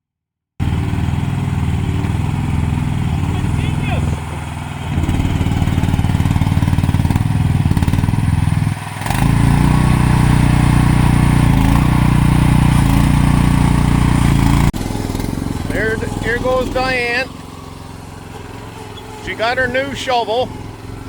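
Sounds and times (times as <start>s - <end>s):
excavator engine running: 0.6s - 21.0s.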